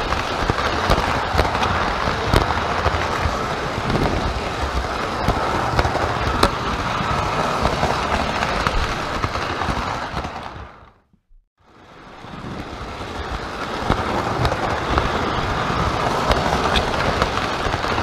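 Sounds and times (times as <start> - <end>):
model train wheels rumbling on rails: 0.0 - 11.0, 11.6 - 18.0.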